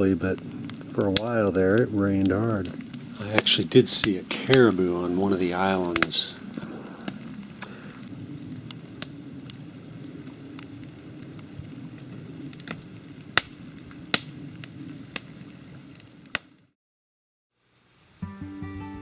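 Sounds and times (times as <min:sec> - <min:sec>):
steady low rumble: 0:00.0 - 0:16.3
raindrops ticking: 0:00.0 - 0:16.6.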